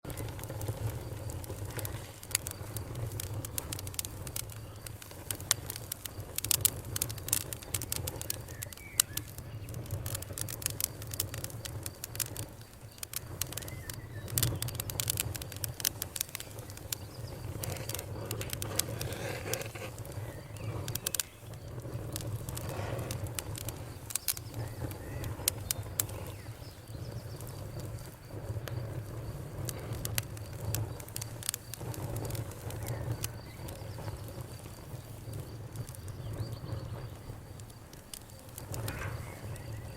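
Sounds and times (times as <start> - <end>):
campfire crackling and popping: 0.0 - 39.9
faint cricket trill: 0.1 - 39.9.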